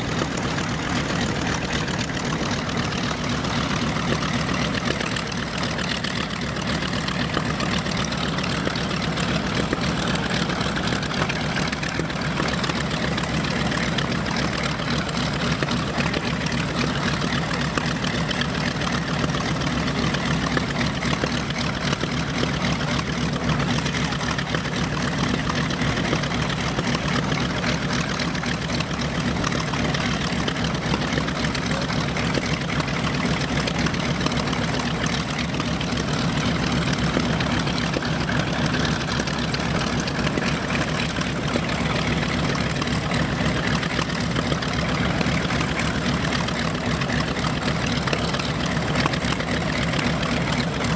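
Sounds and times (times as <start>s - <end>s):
propeller plane engines running: 0.0s - 50.9s.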